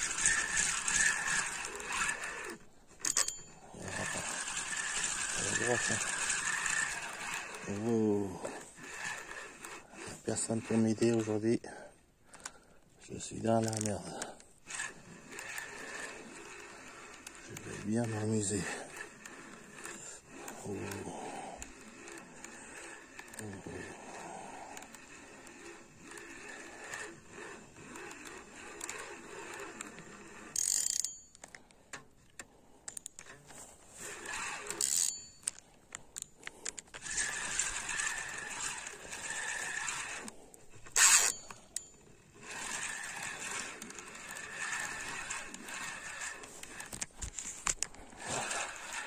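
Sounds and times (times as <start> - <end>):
fishing reel whirring: 0.0 - 49.0.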